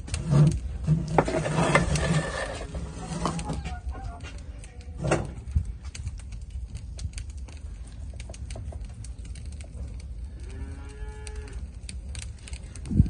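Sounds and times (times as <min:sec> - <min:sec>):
steady low rumble: 0:00.0 - 0:10.5, 0:11.2 - 0:13.0.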